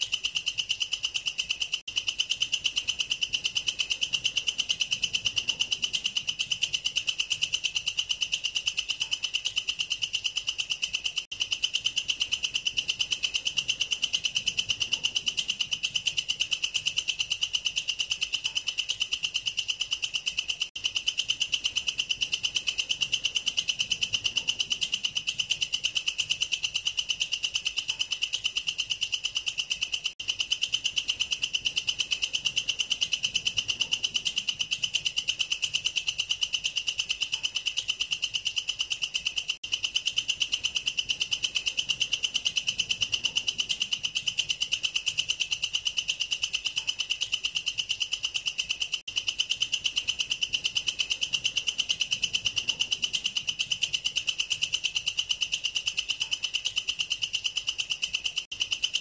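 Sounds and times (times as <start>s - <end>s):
katydid trilling: 0.0s - 59.0s.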